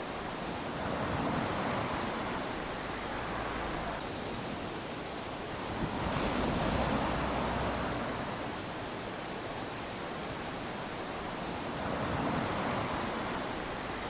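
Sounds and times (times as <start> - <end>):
small waves lapping on sand: 0.0 - 14.0.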